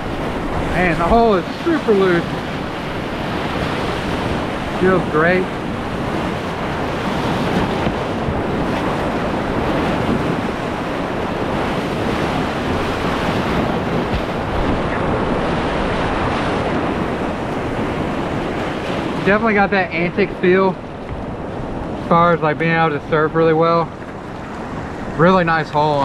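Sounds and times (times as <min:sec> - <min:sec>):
whitewater rushing and churning: 0:00.0 - 0:26.0.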